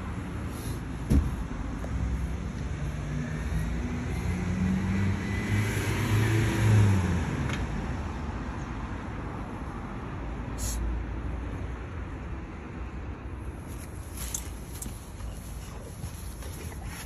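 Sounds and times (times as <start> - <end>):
traffic rumble: 0.0 - 17.0
vehicle passing: 0.0 - 17.0.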